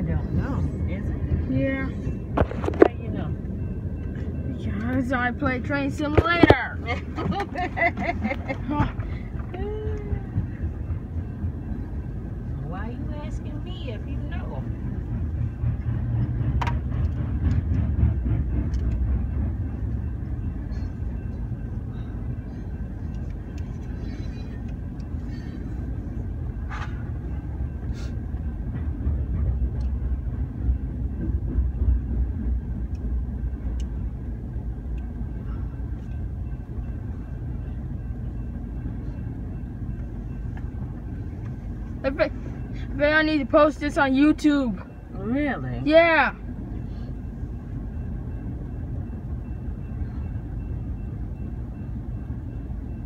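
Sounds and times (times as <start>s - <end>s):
freight train rumbling past: 0.0s - 53.0s
train wheels clicking: 0.3s - 45.1s.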